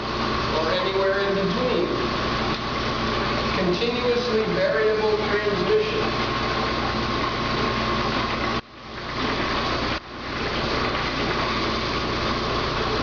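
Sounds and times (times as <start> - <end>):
thin steady whine: 0.0 - 13.0.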